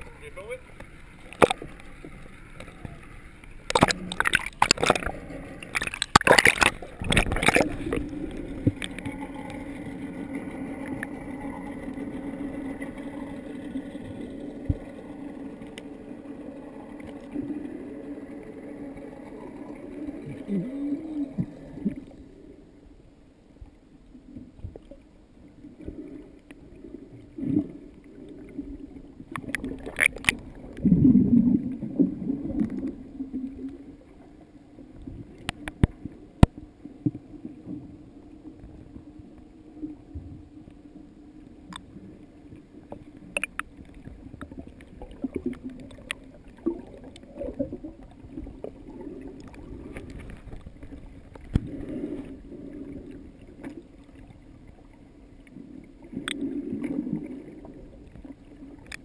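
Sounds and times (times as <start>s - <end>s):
muffled underwater water wash: 0.0s - 59.0s.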